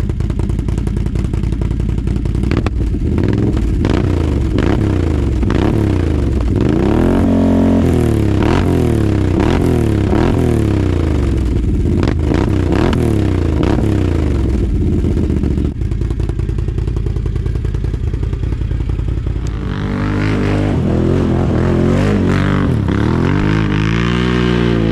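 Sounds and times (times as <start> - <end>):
atv engine revving: 0.0 - 24.9.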